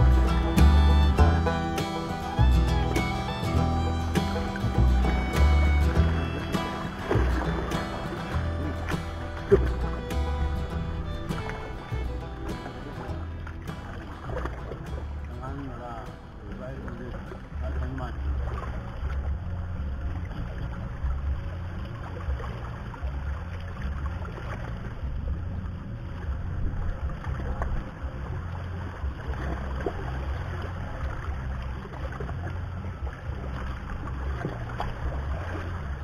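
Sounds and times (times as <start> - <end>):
open-air noise by water: 0.0 - 36.0.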